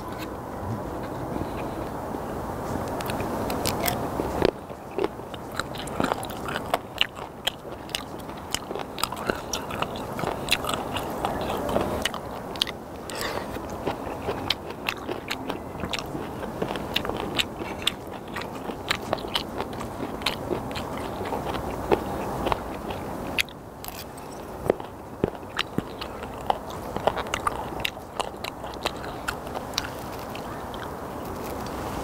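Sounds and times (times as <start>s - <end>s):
wet crunchy chewing: 2.8s - 32.0s.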